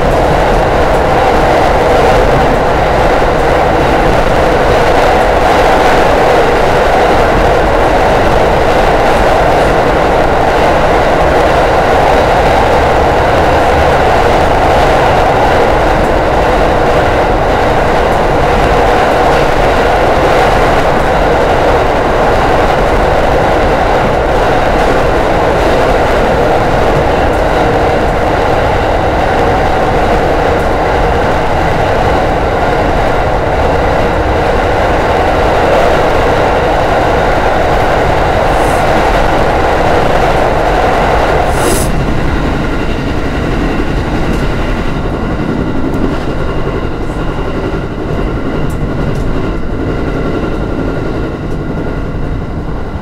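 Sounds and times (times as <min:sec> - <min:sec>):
train running noise inside car: 0:00.0 - 0:53.0.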